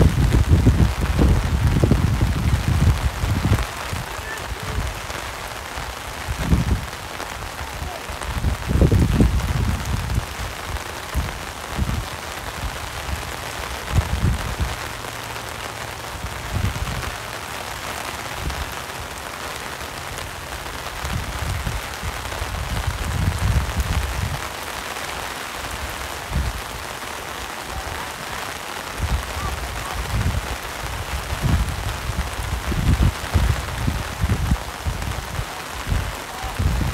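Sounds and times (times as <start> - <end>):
rain hissing: 0.0 - 36.9.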